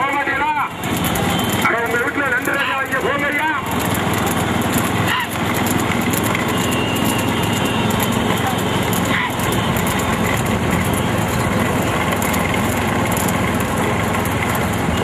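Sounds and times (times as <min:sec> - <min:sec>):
road and wind noise: 0:00.0 - 0:15.0
small vehicle engine running: 0:00.0 - 0:15.0.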